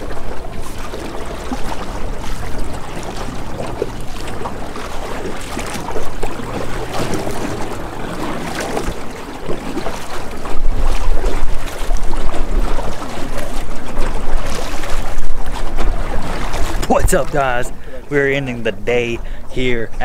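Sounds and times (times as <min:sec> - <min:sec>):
water splashing against metal hull: 0:00.0 - 0:19.4.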